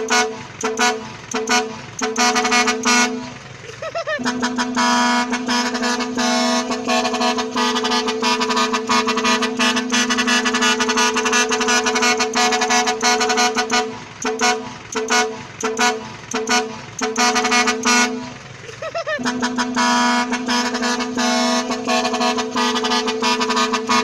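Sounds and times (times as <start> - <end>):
truck horn: 0.0 - 24.0.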